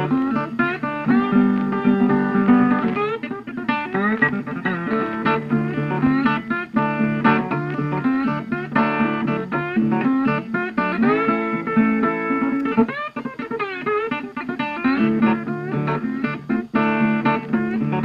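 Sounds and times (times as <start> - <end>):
guitar plucking and strumming: 0.0 - 18.0.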